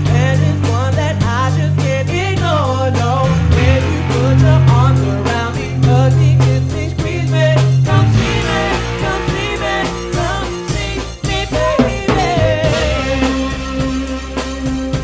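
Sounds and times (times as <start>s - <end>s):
band playing: 0.0s - 15.0s
drum kit beat: 0.0s - 15.0s
person singing: 0.0s - 15.0s.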